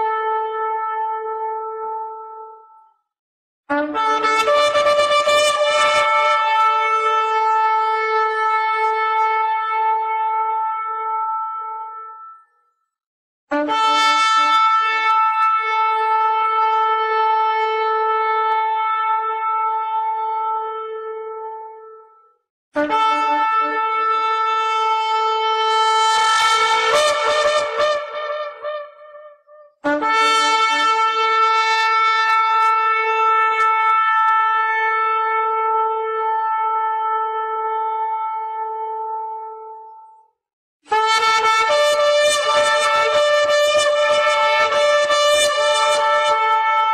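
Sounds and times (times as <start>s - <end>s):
shofar horn blast: 3.7s - 12.3s, 13.5s - 22.0s, 22.8s - 40.0s, 40.9s - 46.9s.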